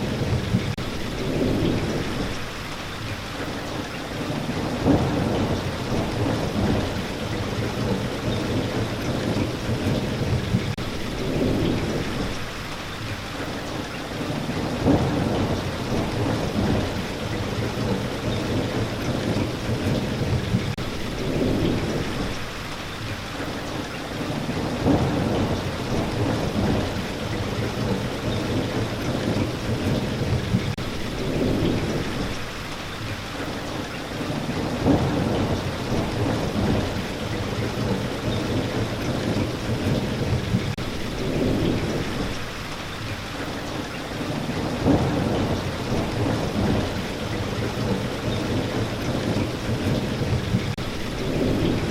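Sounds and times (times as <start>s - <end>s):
thunder rolling: 0.0s - 2.6s, 4.2s - 12.6s, 14.3s - 22.6s, 24.5s - 32.6s, 34.3s - 42.7s, 44.2s - 51.9s
steady rain: 0.0s - 51.9s.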